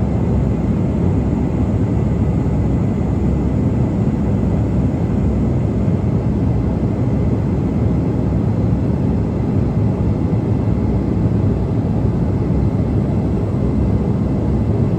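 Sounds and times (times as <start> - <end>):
jet engine roar in cabin: 0.0 - 14.9.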